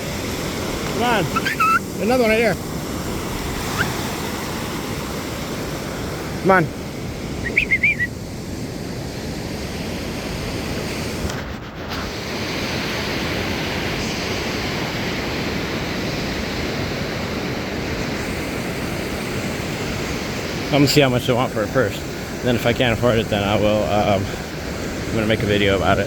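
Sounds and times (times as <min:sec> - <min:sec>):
ocean surf rushing: 0:00.0 - 0:26.0
wind: 0:00.0 - 0:26.0.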